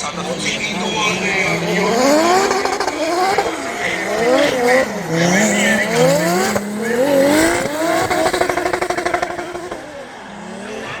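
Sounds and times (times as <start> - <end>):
car engine revving hard: 0.0 - 11.0.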